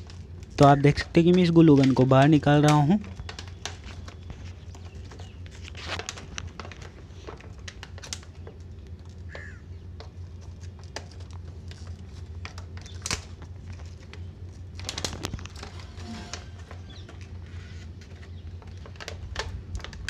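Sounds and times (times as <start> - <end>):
plastic packaging crinkling: 0.0 - 20.0
steady low hum: 0.0 - 20.0.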